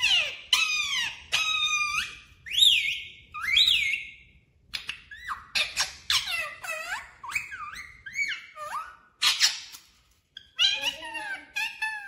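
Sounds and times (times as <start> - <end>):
parakeet squeaky calls and chatter: 0.0 - 12.0.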